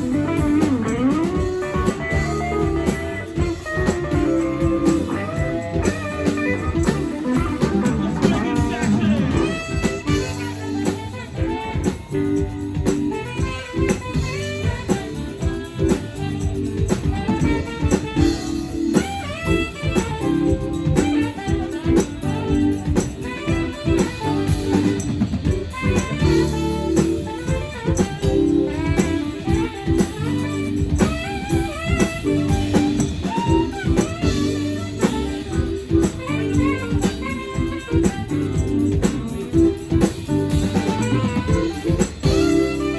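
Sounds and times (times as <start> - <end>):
bass guitar: 0.0 - 42.9
drum kit: 0.0 - 42.9
electric guitar lines: 0.0 - 42.9.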